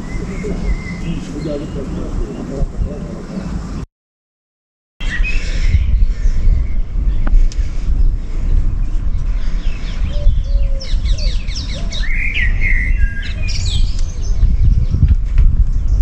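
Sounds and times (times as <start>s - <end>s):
small birds chirping: 0.0s - 3.8s, 5.0s - 16.0s
steady low rumble: 0.0s - 3.8s, 5.2s - 16.0s.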